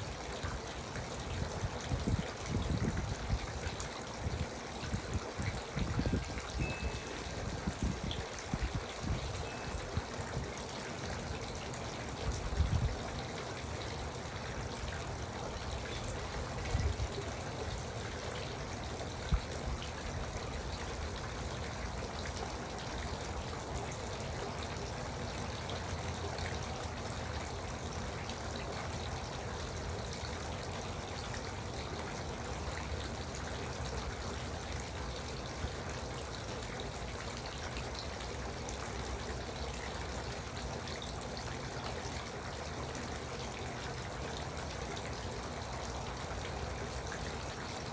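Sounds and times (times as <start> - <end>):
fountain water trickling and splashing: 0.0 - 47.9.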